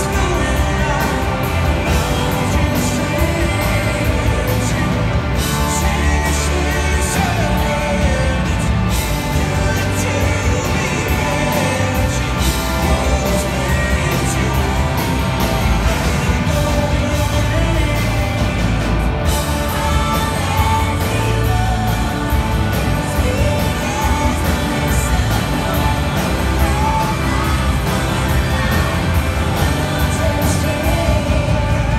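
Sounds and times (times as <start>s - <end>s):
bass guitar: 0.0s - 31.9s
drums: 0.0s - 31.9s
electric guitars: 0.0s - 31.9s
organ: 0.0s - 31.9s
person singing: 0.0s - 31.9s.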